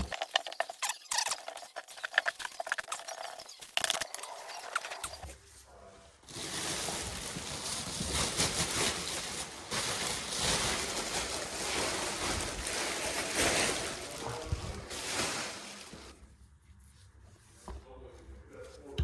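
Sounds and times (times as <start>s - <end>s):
insulation rustling and scraping: 0.0s - 19.0s.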